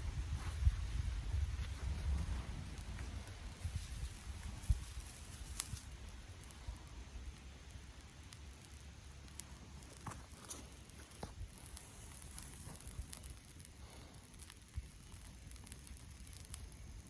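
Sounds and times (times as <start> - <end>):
dry tinder crackling and rustling: 0.0 - 17.0.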